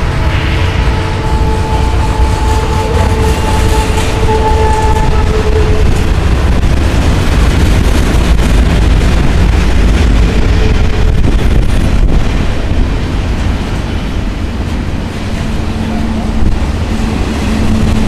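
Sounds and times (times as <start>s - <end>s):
train car clanks: 0.0s - 18.0s
train wheels rumbling on rail: 0.0s - 18.0s
wind buffeting microphone: 0.0s - 18.0s.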